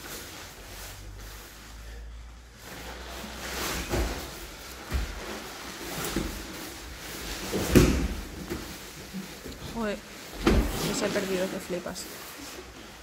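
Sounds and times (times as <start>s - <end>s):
bodies scuffling on mats: 0.0s - 13.0s.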